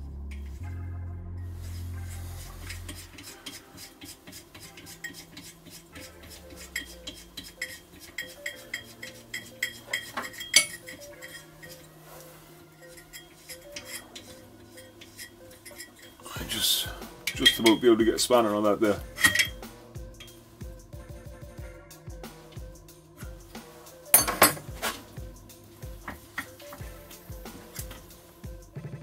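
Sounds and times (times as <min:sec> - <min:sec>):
quiet background music: 0:00.0 - 0:29.0.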